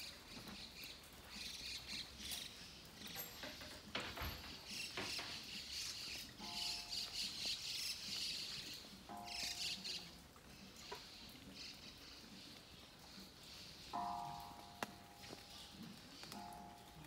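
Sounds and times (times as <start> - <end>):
rain on foliage: 0.0 - 17.0.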